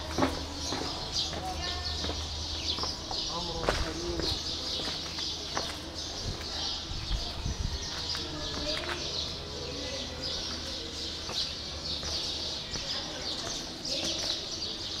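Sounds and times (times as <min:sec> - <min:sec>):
faint voices: 0:00.0 - 0:15.0
small birds chirping: 0:00.0 - 0:15.0.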